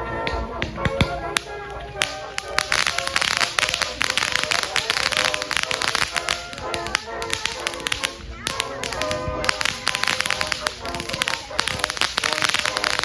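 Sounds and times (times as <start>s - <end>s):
fireworks crackling: 0.0s - 13.0s
music playing: 0.0s - 13.0s.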